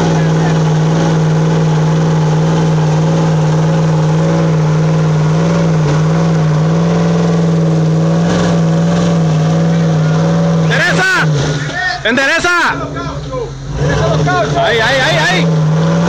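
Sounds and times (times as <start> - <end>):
engine revving high: 0.0 - 16.0.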